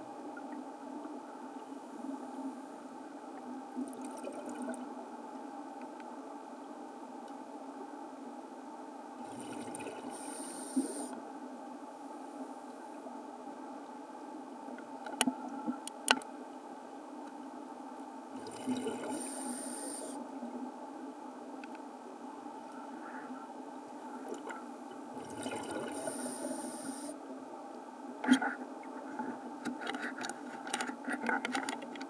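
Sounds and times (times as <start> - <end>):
low underwater hum: 0.0 - 32.0.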